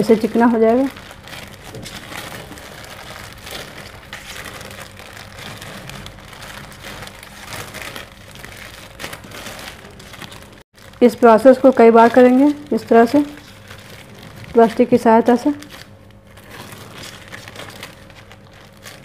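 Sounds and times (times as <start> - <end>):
plastic sheet crinkling: 0.0 - 19.0.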